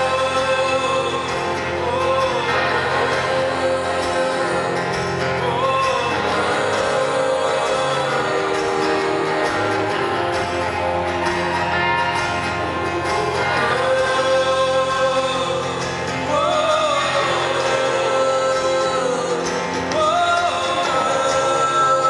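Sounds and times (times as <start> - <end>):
man and woman singing: 0.0 - 11.2, 12.8 - 22.0
guitar accompaniment: 0.0 - 22.0.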